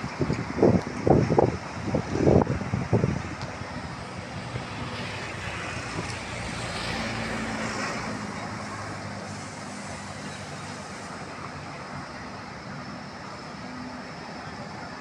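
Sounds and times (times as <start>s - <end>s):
passing vehicles rushing: 0.0s - 15.0s
vehicle engine hum: 0.0s - 15.0s.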